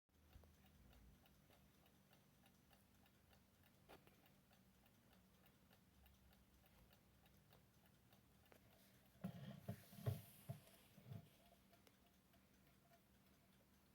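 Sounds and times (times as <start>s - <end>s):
alarm clock ticking: 0.1s - 9.3s, 10.6s - 13.9s.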